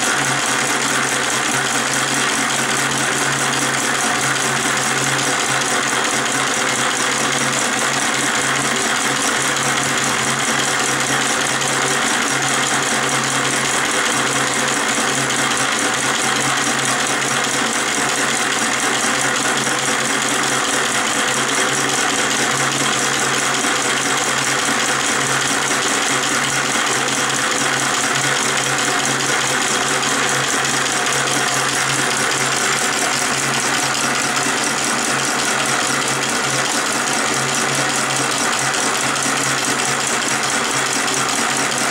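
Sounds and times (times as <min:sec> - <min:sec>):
small engine rattling clatter: 0:00.0 - 0:41.9.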